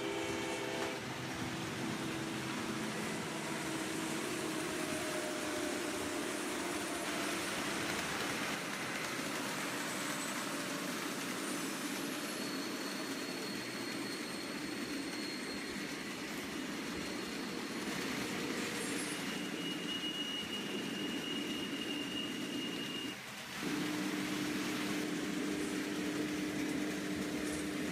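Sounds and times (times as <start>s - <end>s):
model train motors whirring: 0.0s - 27.9s.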